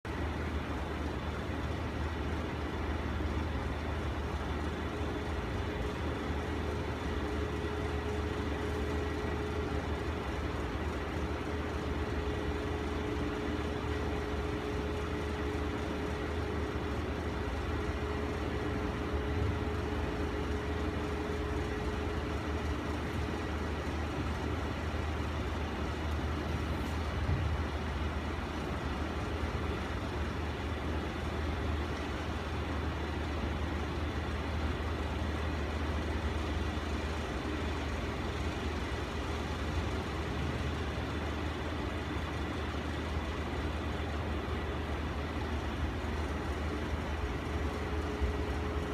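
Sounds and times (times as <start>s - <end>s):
faint steady whine: 0.0s - 48.9s
low mechanical hum with hiss: 0.1s - 48.9s.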